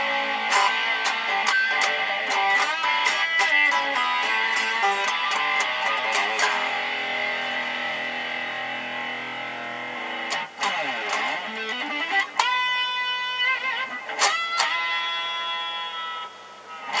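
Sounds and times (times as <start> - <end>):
electric guitar improvising: 0.0 - 17.0.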